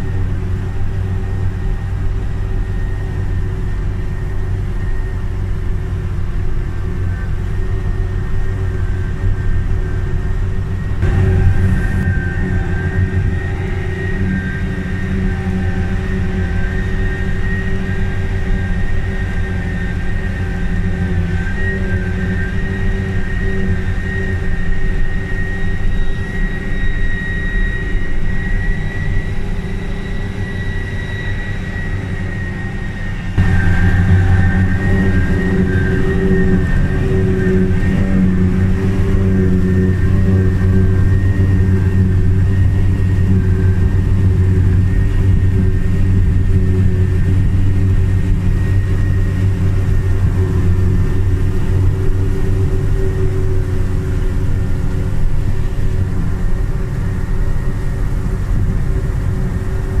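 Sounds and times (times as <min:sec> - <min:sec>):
tractor running: 0:00.0 - 0:21.6, 0:28.9 - 1:00.0
forage harvester engine drone: 0:00.0 - 1:00.0
high whine of chopping gear: 0:00.0 - 1:00.0.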